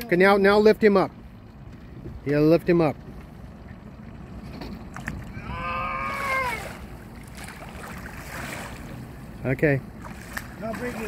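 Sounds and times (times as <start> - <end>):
boat engine rumble: 0.0 - 11.0
water noise: 0.0 - 11.0
wind: 0.0 - 11.0.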